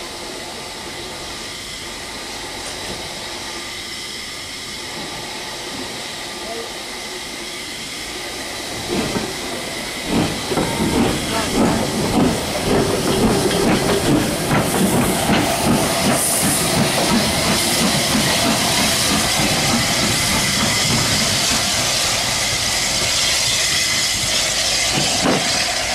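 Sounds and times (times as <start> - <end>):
steady steam hiss: 0.0 - 25.9
steam locomotive exhaust beats: 0.0 - 25.9.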